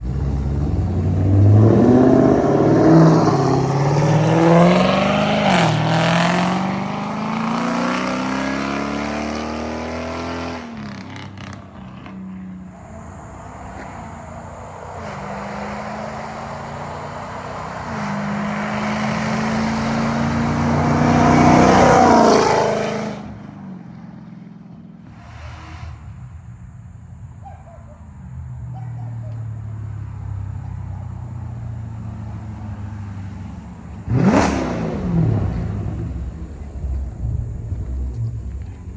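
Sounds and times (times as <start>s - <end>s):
car engine accelerating: 0.0s - 26.5s, 29.6s - 38.9s.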